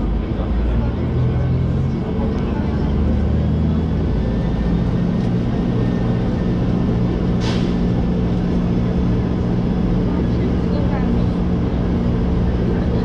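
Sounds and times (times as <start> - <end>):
train running hum: 0.0 - 13.0.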